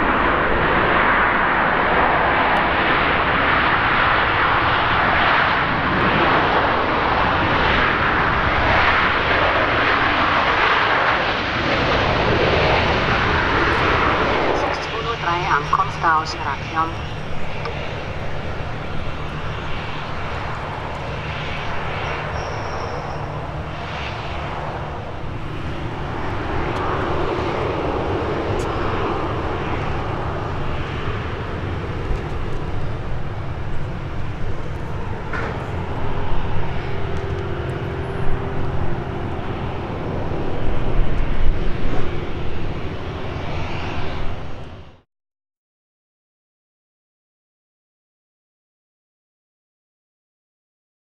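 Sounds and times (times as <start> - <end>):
jet engines at taxi power: 0.0 - 45.1.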